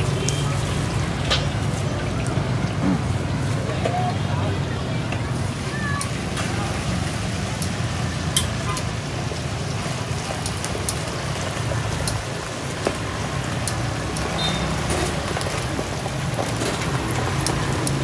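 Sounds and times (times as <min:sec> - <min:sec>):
motorbike traffic rumble: 0:00.0 - 0:18.0.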